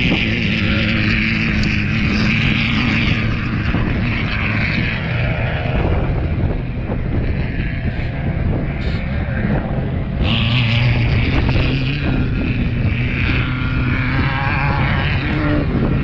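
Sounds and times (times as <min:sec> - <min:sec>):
loud engine drone: 0:00.0 - 0:16.0
low rumble: 0:00.0 - 0:16.0.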